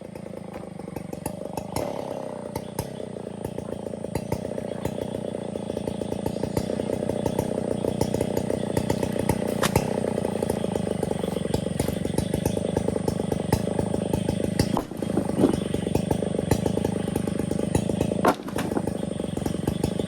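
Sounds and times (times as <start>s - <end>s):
chainsaw engine running fast: 0.0s - 20.0s.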